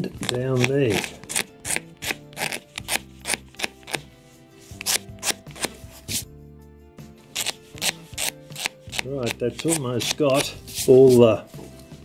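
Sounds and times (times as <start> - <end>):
razor blade scraping paper off wood: 0.0 - 6.2, 7.3 - 11.3.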